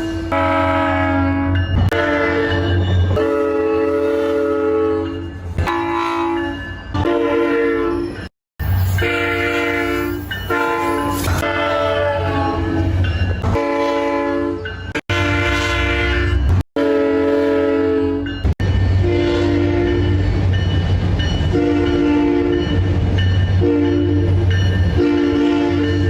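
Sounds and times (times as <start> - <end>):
train horn blasts: 0.0 - 8.2, 8.9 - 18.4, 19.0 - 20.2, 21.5 - 22.8, 23.6 - 26.0.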